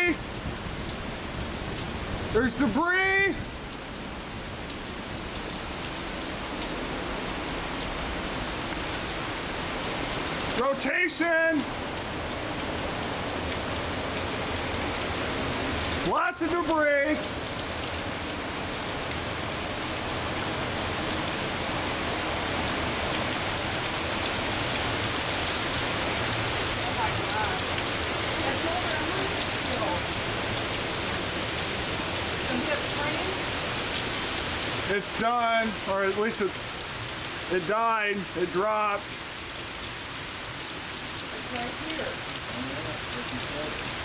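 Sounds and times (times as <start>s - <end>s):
heavy rain hissing: 0.0s - 44.0s.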